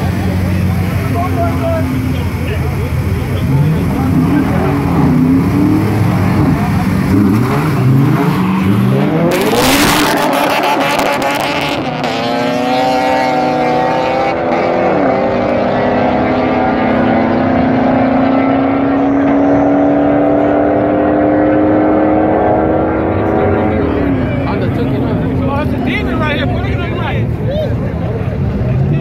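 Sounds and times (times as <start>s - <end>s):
car engines revving hard: 0.0s - 29.0s.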